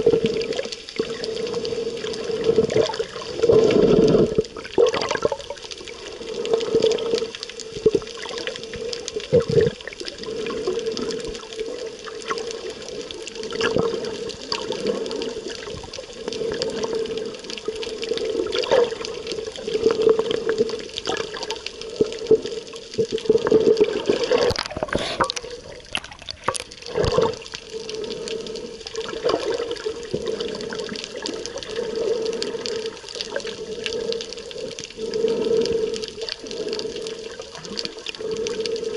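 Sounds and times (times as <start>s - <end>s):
rushes of water: 0.0s - 38.9s
underwater clicks: 0.0s - 38.9s
underwater hum: 0.0s - 38.9s.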